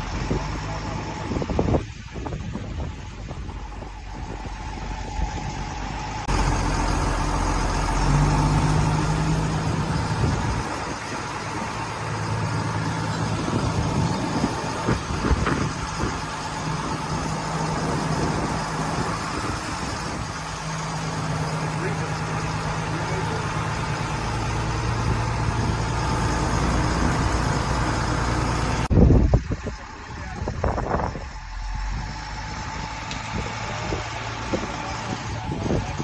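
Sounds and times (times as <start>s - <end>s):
engine drone with hum: 0.0s - 36.0s.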